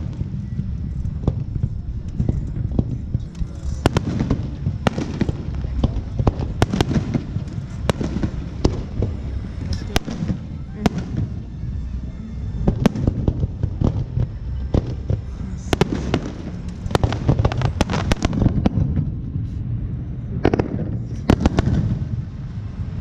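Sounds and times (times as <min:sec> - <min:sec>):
fireworks bangs and crackles: 0:00.0 - 0:23.0
steady low rumble: 0:00.0 - 0:23.0.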